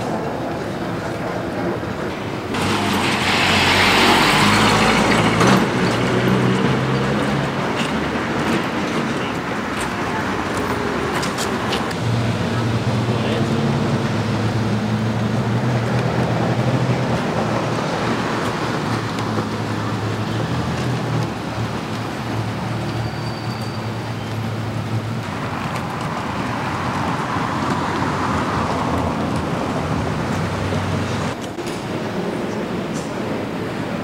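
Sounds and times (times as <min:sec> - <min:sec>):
road noise: 0:00.0 - 0:34.0.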